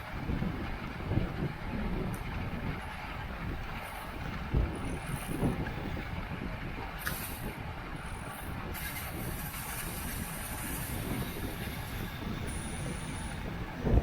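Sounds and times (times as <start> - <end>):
bicycle tyres rolling on road: 0.0 - 14.0
wind rush: 0.0 - 14.0.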